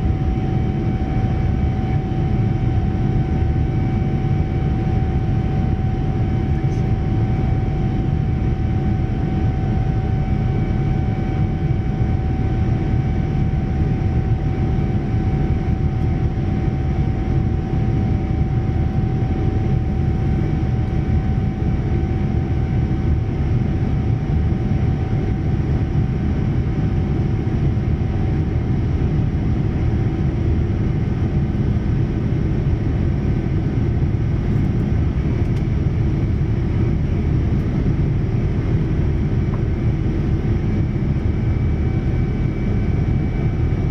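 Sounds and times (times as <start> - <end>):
aircraft cabin engine roar: 0.0 - 43.9.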